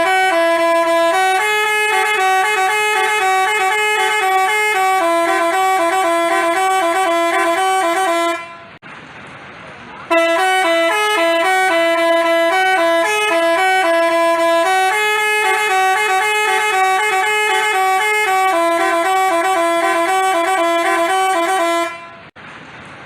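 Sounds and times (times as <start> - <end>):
bus horn playing a melody: 0.0 - 8.8, 10.1 - 22.4.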